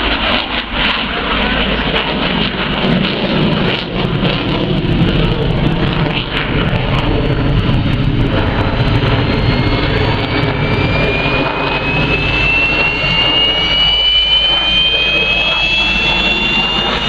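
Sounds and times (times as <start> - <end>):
jet engines rumbling: 0.0 - 17.0
rising whine: 0.0 - 17.0.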